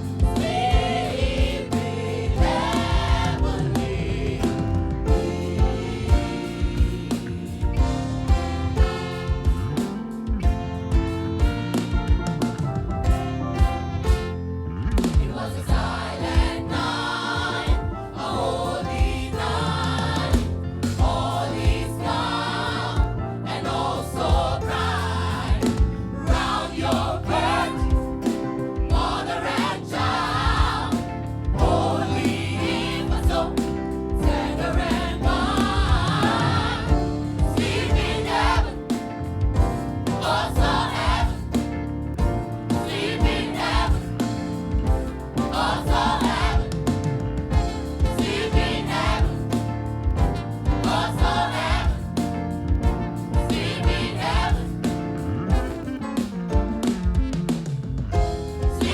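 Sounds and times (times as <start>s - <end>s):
gospel choir singing: 0.0s - 56.2s, 58.1s - 58.9s
live band playing: 0.0s - 58.9s
steady drum beat: 0.0s - 58.9s.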